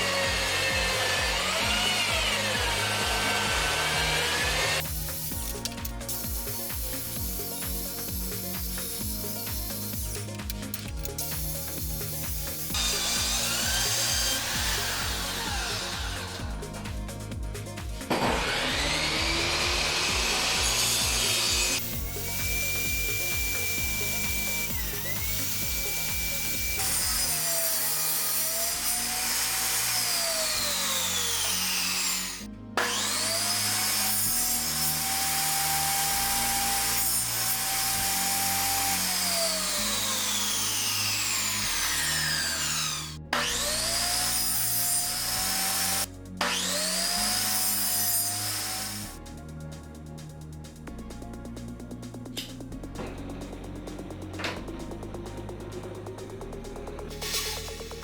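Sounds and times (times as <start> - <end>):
power tool motor whine: 0.0 - 17.0, 18.0 - 49.2, 57.2 - 58.0
background music: 0.0 - 58.0.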